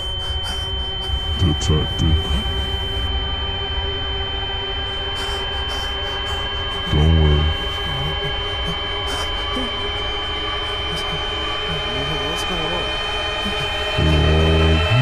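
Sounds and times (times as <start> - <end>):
high-pitched ringing tone: 0.0 - 15.0
low rumbling drone: 0.0 - 15.0
low wavering sound: 0.0 - 15.0.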